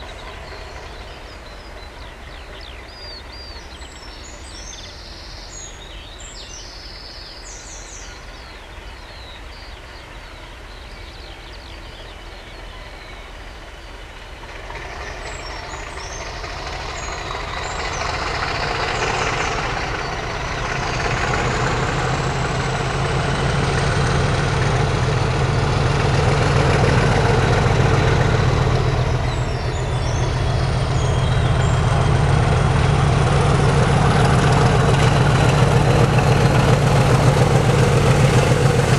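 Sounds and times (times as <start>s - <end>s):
birdsong: 0.0s - 38.9s
diesel locomotive engine: 0.0s - 38.9s.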